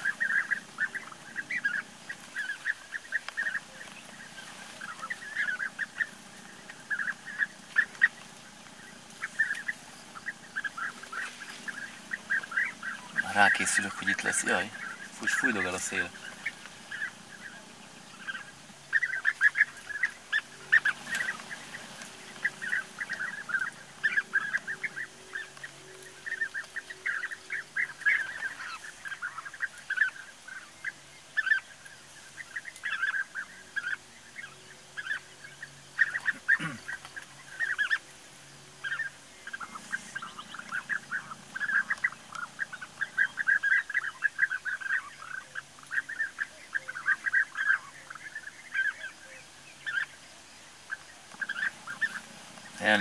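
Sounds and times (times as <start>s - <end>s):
birds trilled calls: 0.0s - 53.0s
faint low hum: 0.0s - 53.0s.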